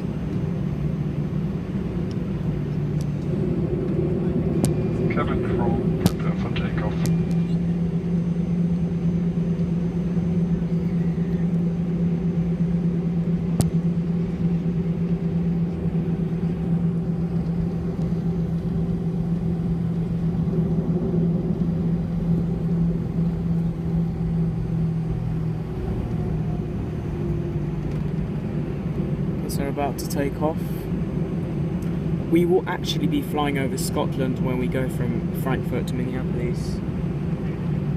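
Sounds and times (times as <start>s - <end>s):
aircraft cabin engine hum: 0.0s - 37.9s.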